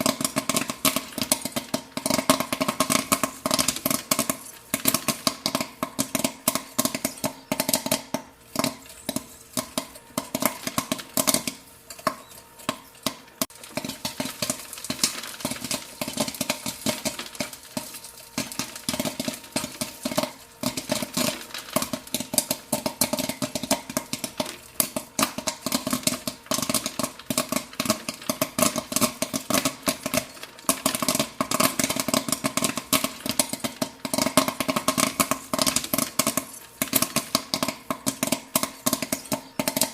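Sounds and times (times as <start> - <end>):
cooker hum: 0.0 - 39.9
popcorn popping: 0.0 - 39.9.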